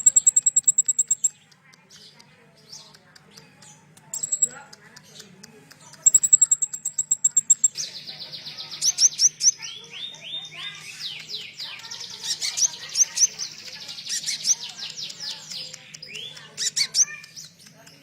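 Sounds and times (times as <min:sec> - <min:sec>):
songbird rapid high chirps: 0:00.0 - 0:18.0.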